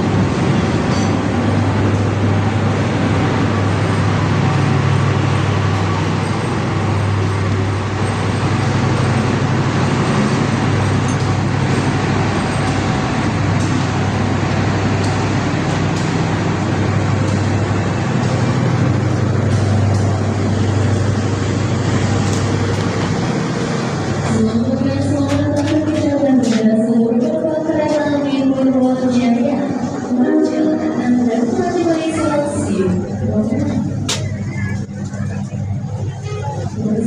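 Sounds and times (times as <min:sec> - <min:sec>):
passenger train running: 0:00.0 - 0:37.0.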